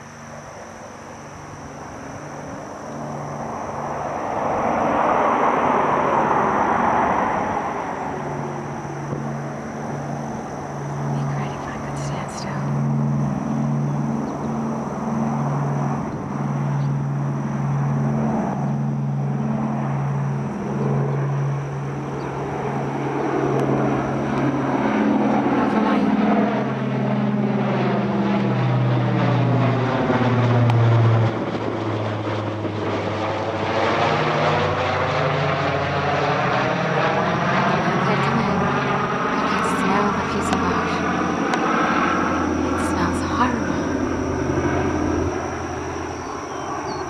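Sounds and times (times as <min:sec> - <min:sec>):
propeller bomber engines droning: 0:00.0 - 0:47.0.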